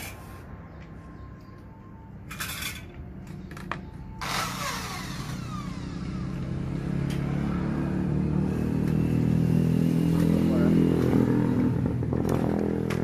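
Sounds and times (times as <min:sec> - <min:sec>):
engine running: 0:02.3 - 0:13.0.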